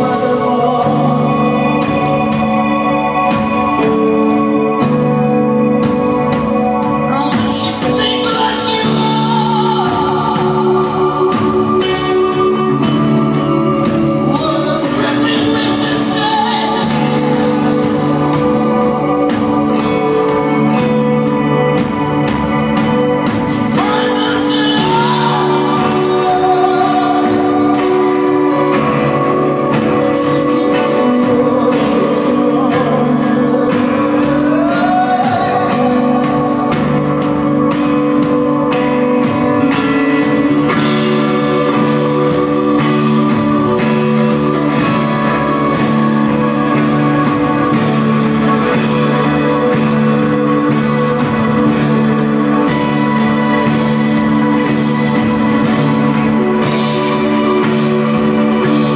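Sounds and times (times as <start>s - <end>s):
man singing: 0.0s - 21.2s, 22.9s - 58.9s
electric guitar: 0.0s - 58.9s
keyboard chords: 0.0s - 58.9s.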